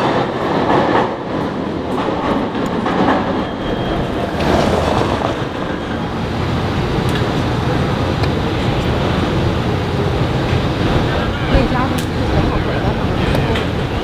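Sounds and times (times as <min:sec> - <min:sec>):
streetcar wheels clacking over rails: 0:00.0 - 0:14.0.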